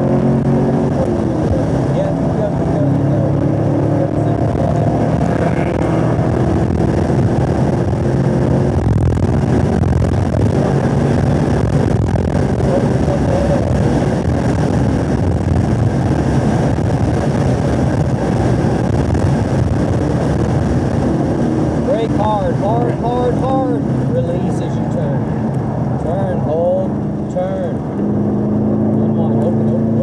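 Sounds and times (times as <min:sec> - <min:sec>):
car engine accelerating: 0:00.0 - 0:30.0
wind noise: 0:00.0 - 0:30.0.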